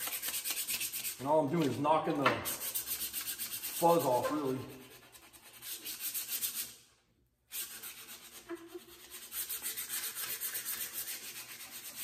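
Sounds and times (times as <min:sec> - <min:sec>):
sandpaper rubbing on wood: 0:00.0 - 0:06.8, 0:07.5 - 0:12.0.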